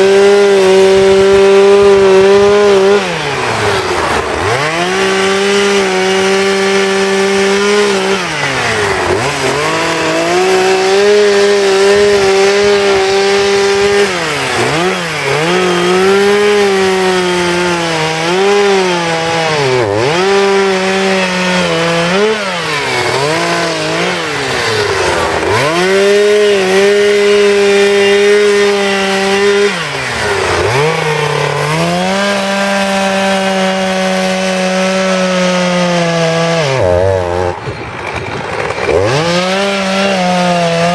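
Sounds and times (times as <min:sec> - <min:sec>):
chainsaw carving wood: 0:00.0 - 0:40.9.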